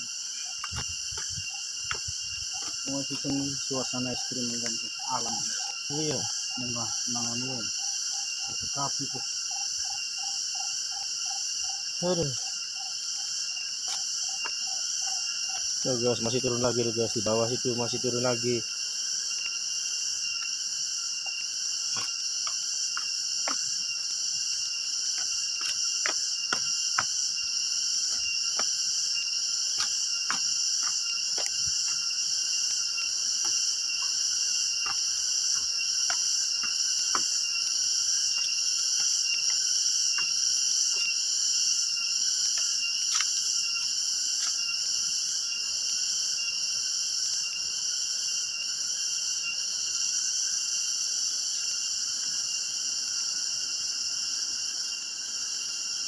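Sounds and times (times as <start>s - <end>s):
forest insects buzzing: 0.0s - 56.0s.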